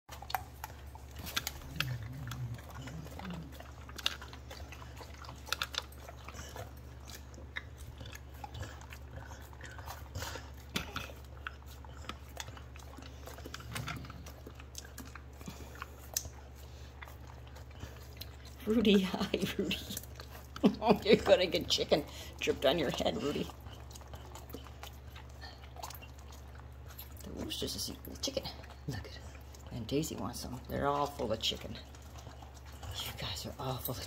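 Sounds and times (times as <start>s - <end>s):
dog licking and lapping: 0.1s - 34.0s
steady low hum: 0.1s - 34.0s.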